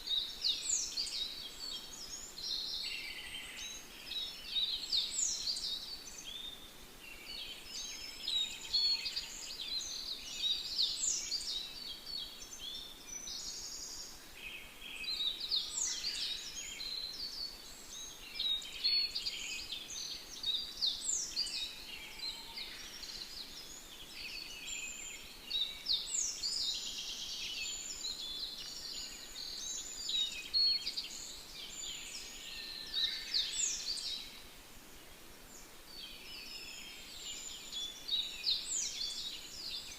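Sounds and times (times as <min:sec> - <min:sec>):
birds singing chorus: 0:00.0 - 0:39.9.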